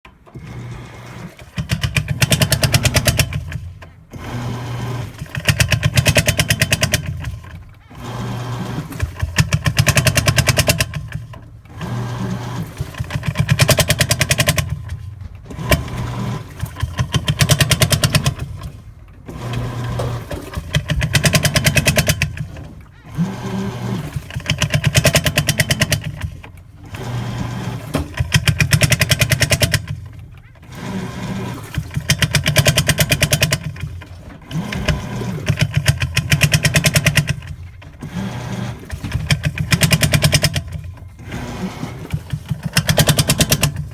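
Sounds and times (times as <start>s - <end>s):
washing machine motor hum: 0.1s - 43.9s
washing machine rattling clatter: 0.1s - 43.9s.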